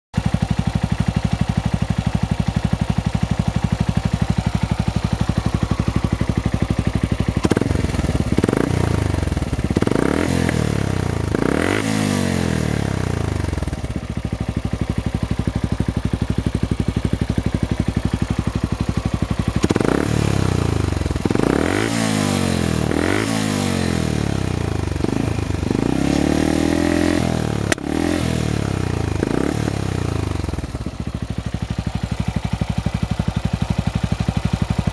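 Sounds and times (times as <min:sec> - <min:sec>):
motorcycle engine idling and revving: 0:00.2 - 0:34.9.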